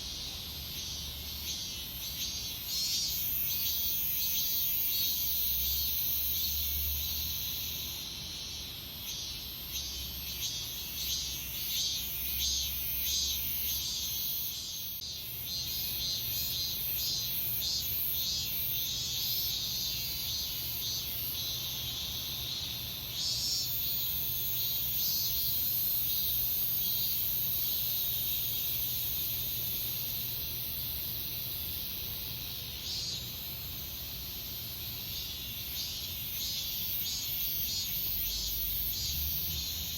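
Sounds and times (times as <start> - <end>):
cicadas droning: 0.0 - 39.9
pulsing insect song: 0.0 - 39.9.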